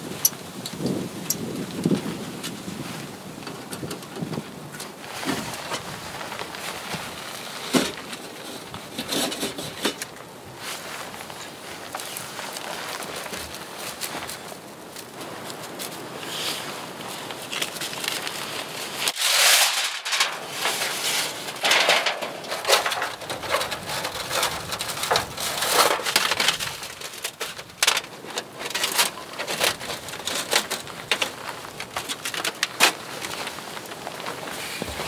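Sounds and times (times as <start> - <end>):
crunching in snow: 4.9 - 35.0.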